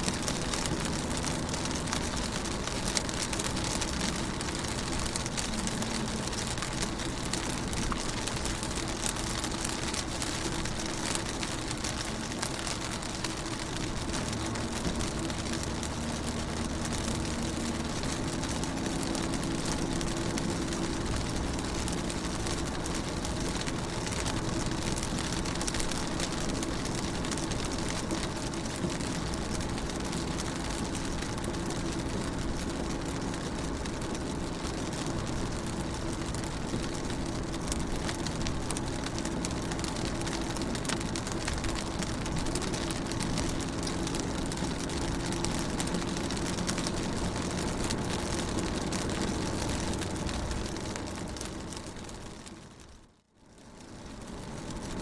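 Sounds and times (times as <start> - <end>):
rain on a car: 0.0 - 55.0.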